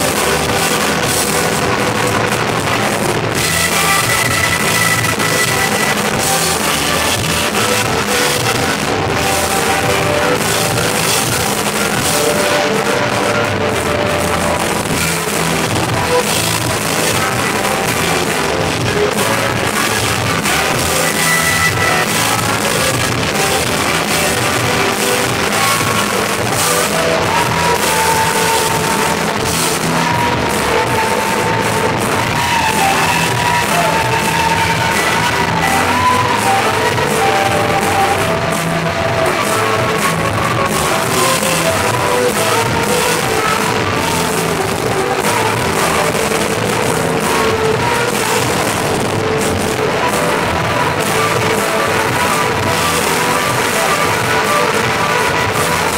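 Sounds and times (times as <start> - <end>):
electric guitar: 0.0 - 55.9
keyboard: 0.0 - 55.9
live rock band playing: 0.0 - 55.9
person singing: 0.0 - 55.9.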